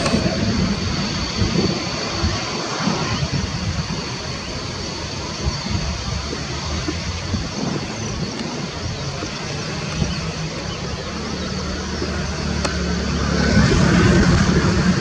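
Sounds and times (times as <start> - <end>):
engine running: 0.0 - 15.0
faint high whine: 0.0 - 15.0.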